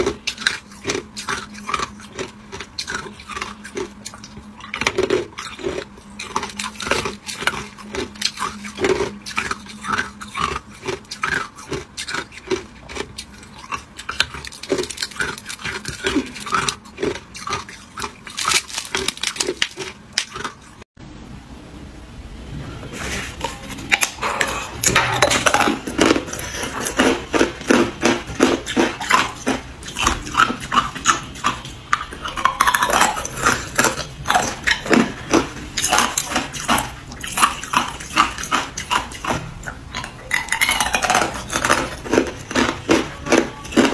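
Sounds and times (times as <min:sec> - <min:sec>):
ice being chewed: 0:00.0 - 0:20.8, 0:23.4 - 0:43.9.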